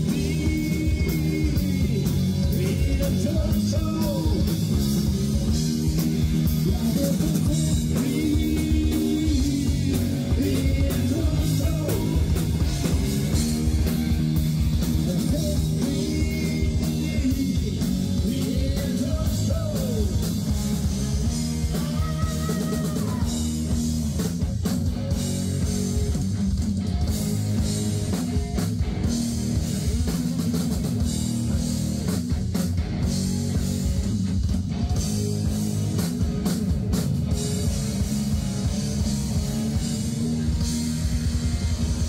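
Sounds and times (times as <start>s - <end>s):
drum kit: 0.0s - 42.0s
guitar: 0.0s - 42.0s.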